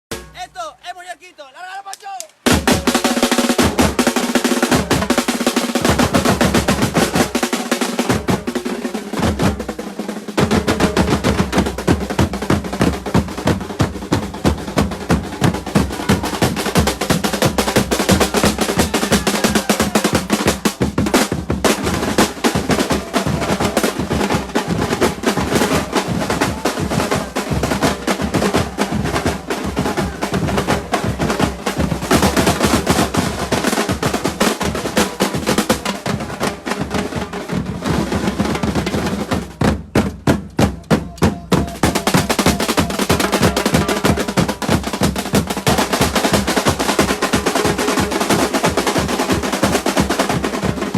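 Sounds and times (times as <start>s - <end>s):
drum ensemble playing fast groove: 0.1s - 1.7s, 2.3s - 50.9s.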